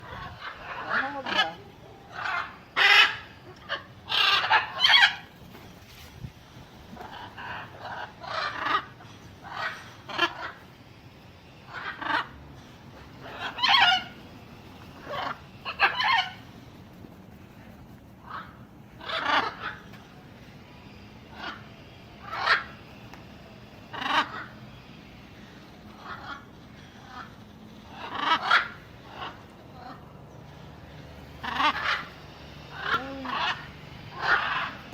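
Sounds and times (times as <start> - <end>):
macaws squawking: 0.0 - 10.8, 11.6 - 20.2, 21.2 - 22.9, 23.8 - 24.6, 25.4 - 34.9.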